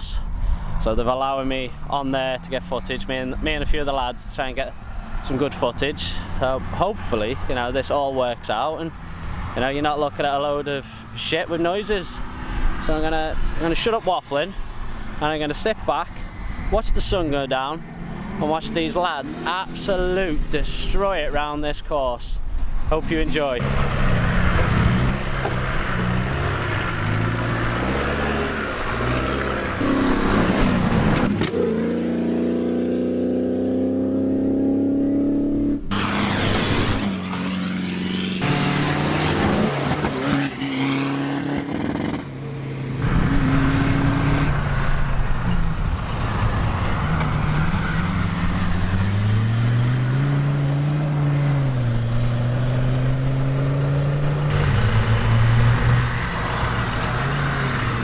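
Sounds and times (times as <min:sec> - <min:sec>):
off-road engines revving: 0:00.0 - 0:21.7, 0:22.8 - 0:58.0.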